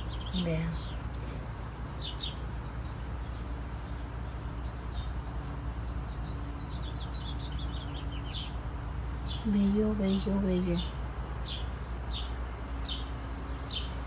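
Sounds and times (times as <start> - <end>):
small bird chirping: 0.0 - 1.4, 2.0 - 14.0
low background rumble: 0.0 - 14.0.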